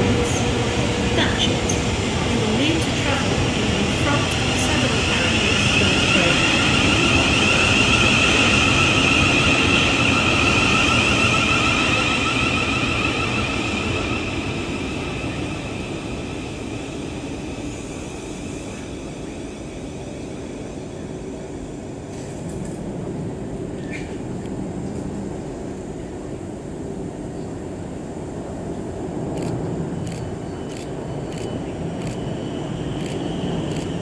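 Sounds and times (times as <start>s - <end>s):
electric train whine: 0.0s - 34.0s.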